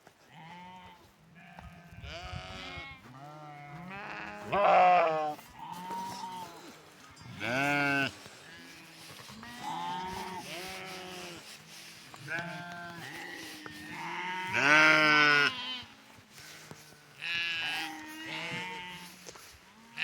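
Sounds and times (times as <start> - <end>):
sheep bleating: 0.3 - 20.0.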